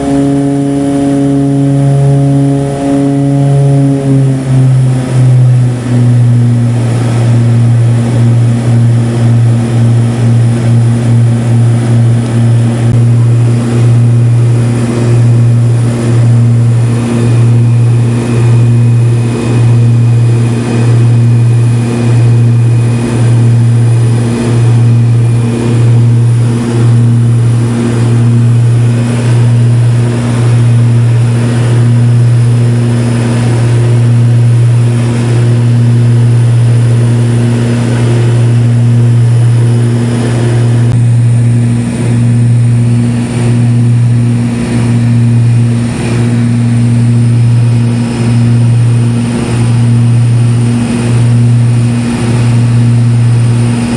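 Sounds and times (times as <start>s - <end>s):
propeller engine droning: 0.0s - 53.9s.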